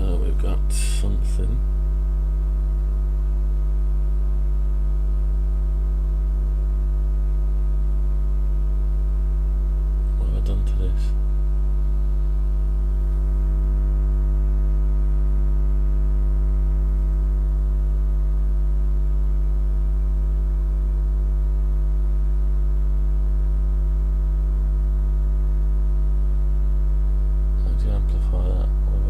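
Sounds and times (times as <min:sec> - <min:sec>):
loud mains hum: 0:00.0 - 0:29.0.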